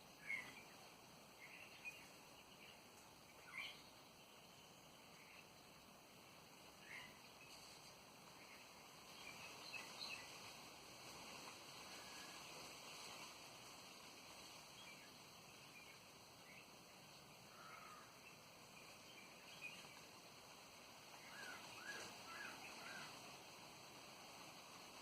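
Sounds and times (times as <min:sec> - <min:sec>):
wild birds chirping: 0:00.0 - 0:25.0
wind hiss: 0:00.0 - 0:25.0.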